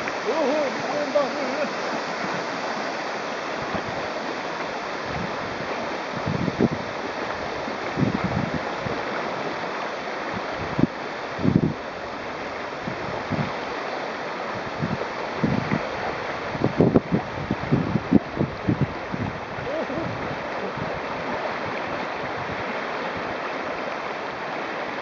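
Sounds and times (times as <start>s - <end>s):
wind buffeting microphone: 0.0s - 13.7s, 14.4s - 24.8s
river whitewater rushing: 0.0s - 25.0s.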